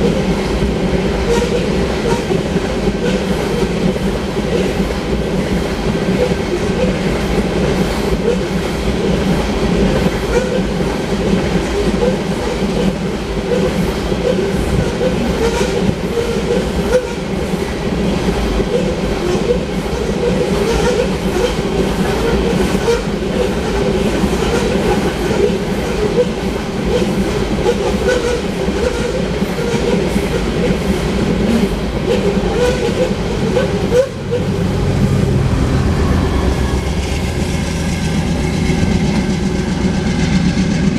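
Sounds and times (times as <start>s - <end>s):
train rumbling past: 0.0s - 40.9s
wheels clacking on rails: 0.0s - 40.9s.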